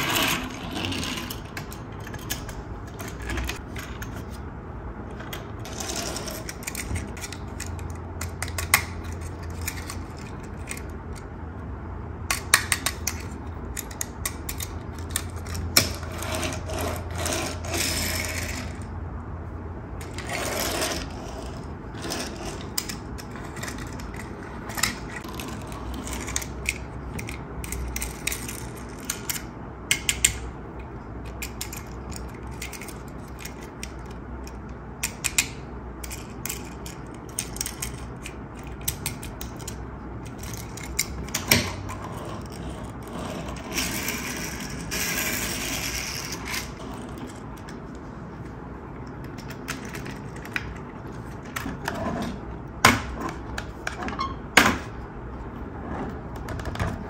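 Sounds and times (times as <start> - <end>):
plastic toy parts clicking and rattling: 0.0 - 4.3, 5.1 - 11.3, 12.2 - 18.8, 20.0 - 48.0, 49.0 - 51.9.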